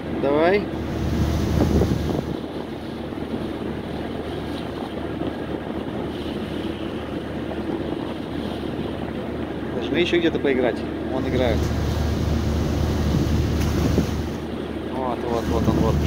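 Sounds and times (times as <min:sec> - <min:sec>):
water splashing against ship hull: 0:00.0 - 0:09.9, 0:10.7 - 0:16.0
low ship rumble: 0:00.0 - 0:16.0
wind buffeting microphone: 0:00.0 - 0:16.0.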